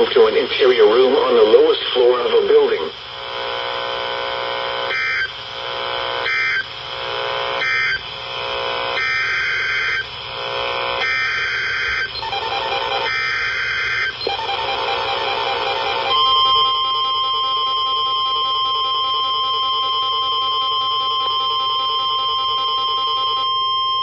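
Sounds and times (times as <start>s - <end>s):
radio static: 0.0s - 23.3s
buzzy digital data bursts: 0.0s - 24.0s.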